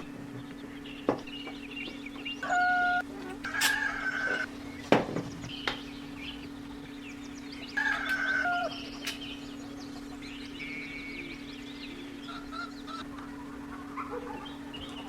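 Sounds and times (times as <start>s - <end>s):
chickens clucking: 0.0s - 15.0s
steady low hum: 0.0s - 15.0s.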